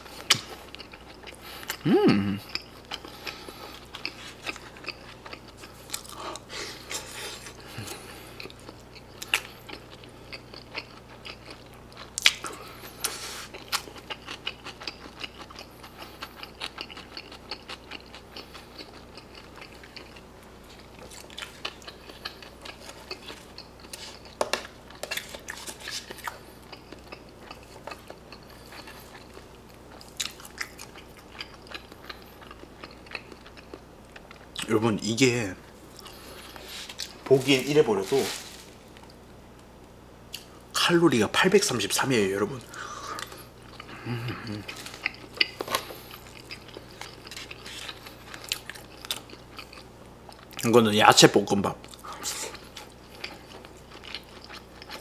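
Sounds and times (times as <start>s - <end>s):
person chewing close up: 0.0s - 34.7s, 35.8s - 39.4s, 42.5s - 50.7s, 51.8s - 55.0s.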